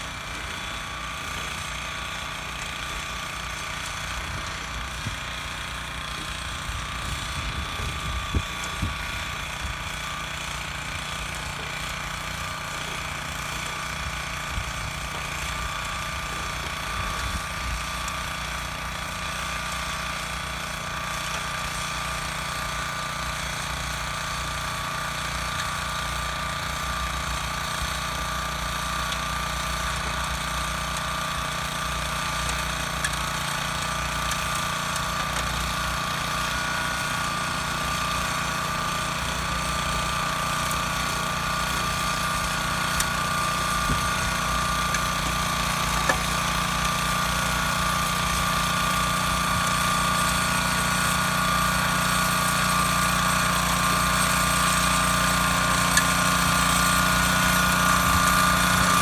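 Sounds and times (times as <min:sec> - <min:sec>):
tiller engine running: 0:00.0 - 0:59.0
tines churning soil: 0:00.0 - 0:59.0.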